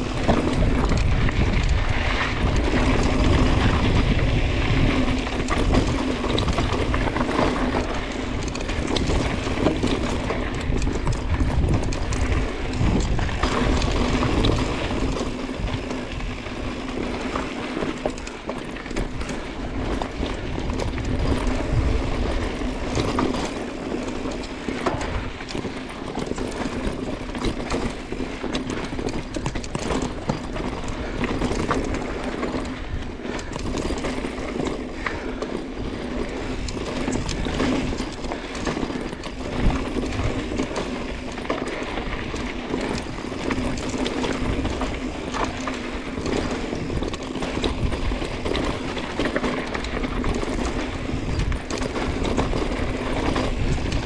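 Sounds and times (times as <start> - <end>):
bike rattling and clicking: 0.0 - 54.0
bike tyres crunching over stones: 0.0 - 54.0
wind rumbling on microphone: 0.0 - 54.0.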